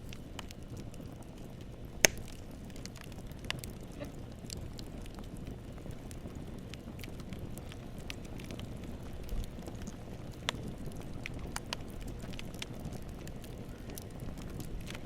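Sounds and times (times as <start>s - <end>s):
burning wood crackling and popping: 0.0s - 15.0s
flames rushing: 0.0s - 15.0s.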